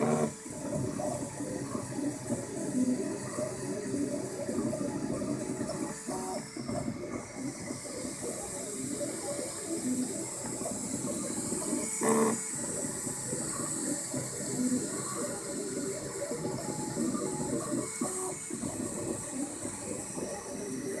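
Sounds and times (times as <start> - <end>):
cooling fans hissing: 0.0 - 21.0
stepper motors whirring: 0.0 - 21.0.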